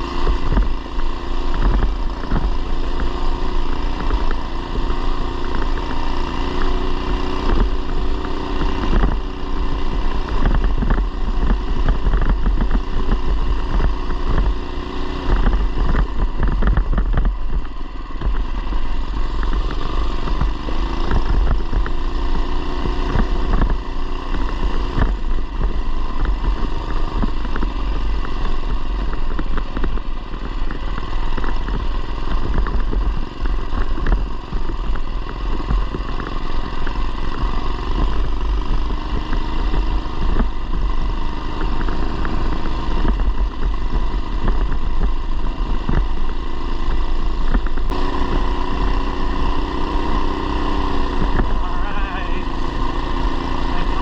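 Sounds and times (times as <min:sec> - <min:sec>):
mini bike engine running: 0:00.0 - 0:54.0.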